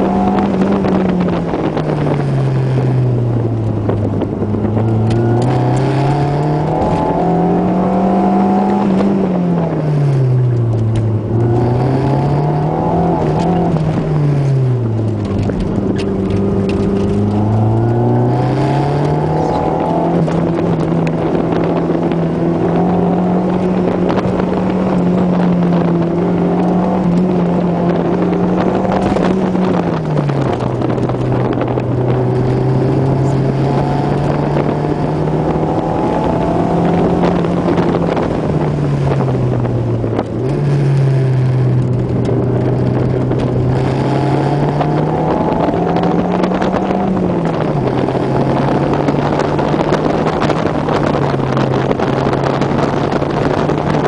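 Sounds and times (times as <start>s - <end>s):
car engine revving inside cabin: 0.0s - 54.0s.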